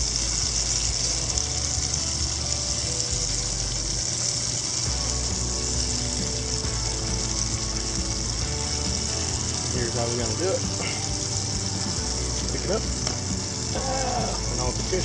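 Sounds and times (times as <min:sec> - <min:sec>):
soft background music: 0:00.0 - 0:15.0
steady high hiss: 0:00.0 - 0:15.0.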